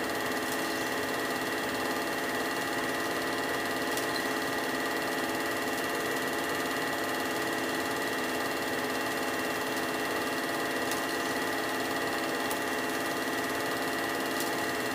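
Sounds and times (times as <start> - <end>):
film projector whirring and clattering: 0.0 - 14.9.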